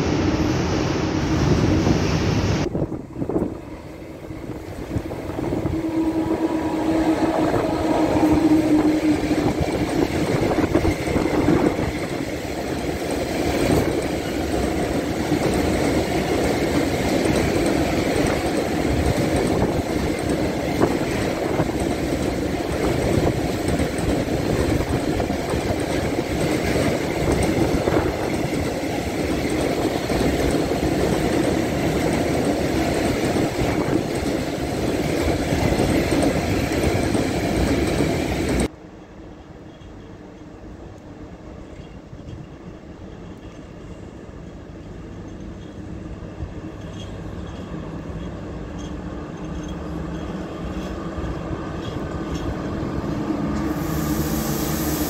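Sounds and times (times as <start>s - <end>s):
electric locomotive hum: 0.0s - 55.0s
train wheels rumbling on track: 0.0s - 55.0s.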